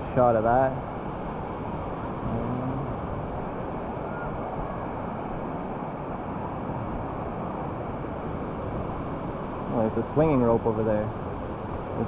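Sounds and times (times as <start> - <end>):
waterfall roaring: 0.3 - 10.9.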